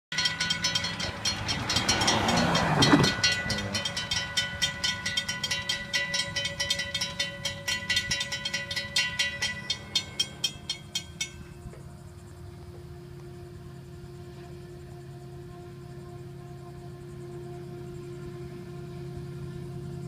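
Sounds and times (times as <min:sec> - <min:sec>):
railroad crossing bells ringing: 0:00.1 - 0:20.0.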